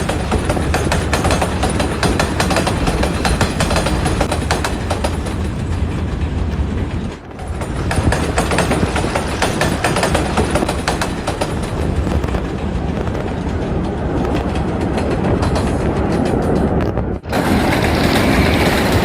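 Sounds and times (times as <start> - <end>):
low rumble of toy train: 0.0 - 19.0
toy train wheels clicking on track: 0.0 - 19.0.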